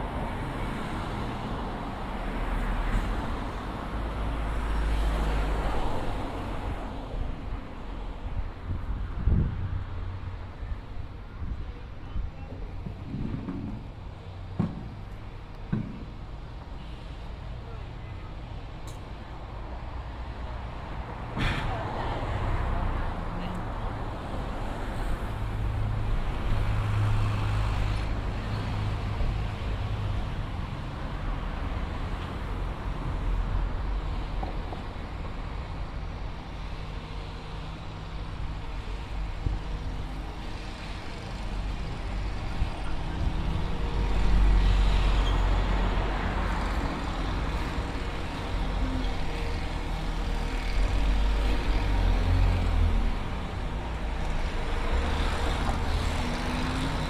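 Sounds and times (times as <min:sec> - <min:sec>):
vehicles driving past: 0:00.0 - 0:57.0.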